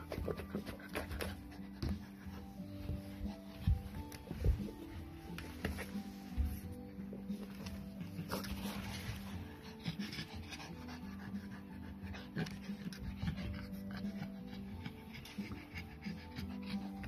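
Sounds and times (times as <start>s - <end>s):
puppy panting: 0.0s - 6.5s, 7.6s - 17.0s
background music with low notes: 0.0s - 17.0s.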